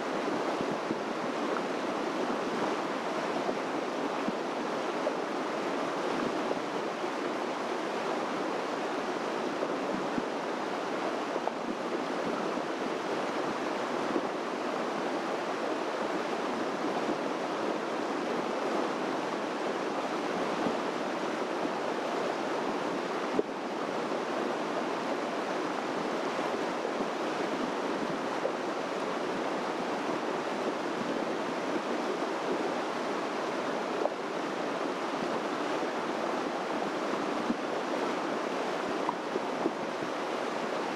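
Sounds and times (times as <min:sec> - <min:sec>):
flowing water rushing: 0:00.0 - 0:40.9.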